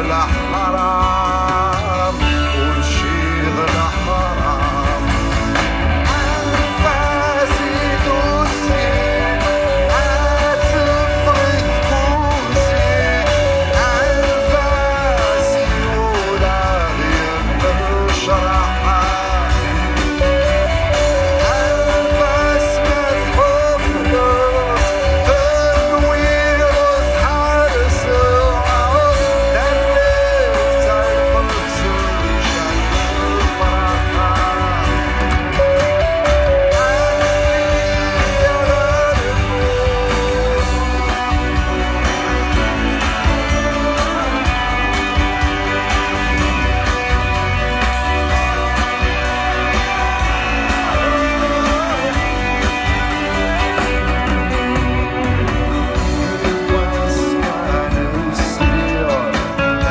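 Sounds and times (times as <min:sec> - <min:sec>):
live rock band with singing: 0:00.0 - 0:59.9.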